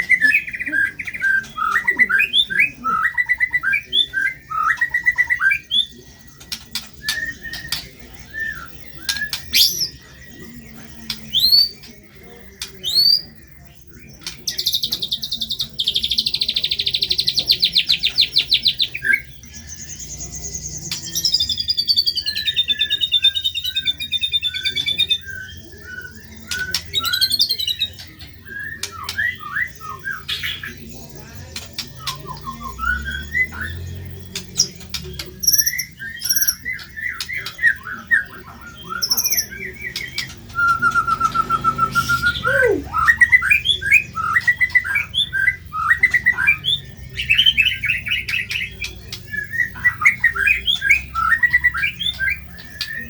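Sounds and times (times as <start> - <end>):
songbird singing varied phrases: 0.0 - 53.0.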